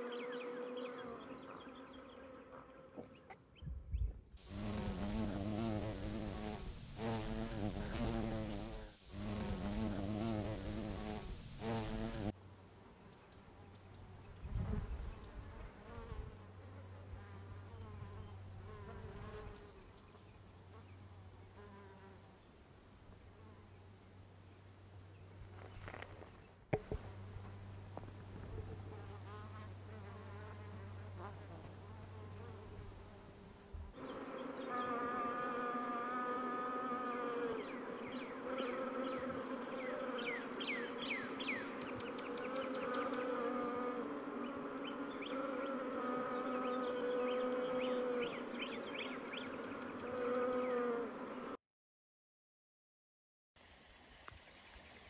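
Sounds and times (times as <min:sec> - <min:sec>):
bees buzzing: 0:00.0 - 0:03.4, 0:04.5 - 0:48.8.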